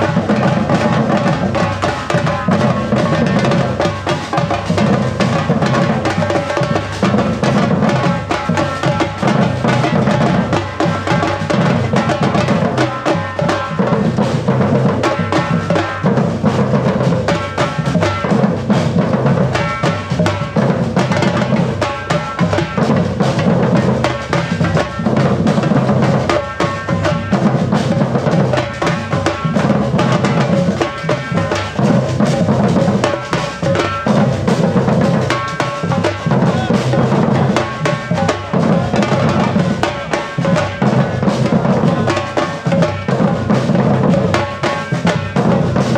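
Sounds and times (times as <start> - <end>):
percussion band drumming: 0.0 - 45.9.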